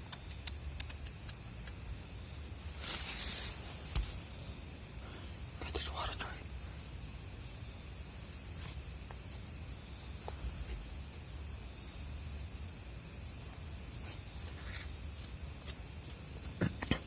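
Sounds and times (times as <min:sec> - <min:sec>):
crickets ringing: 0:00.0 - 0:17.0.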